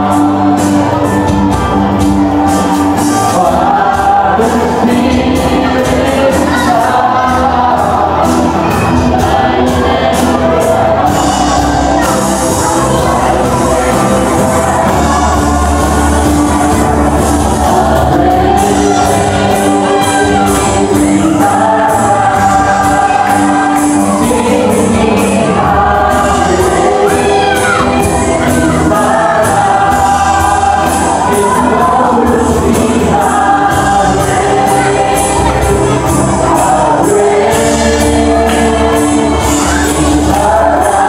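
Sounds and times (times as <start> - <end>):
acoustic guitar: 0.0 - 41.0
electric bass: 0.0 - 41.0
voices singing: 0.0 - 41.0.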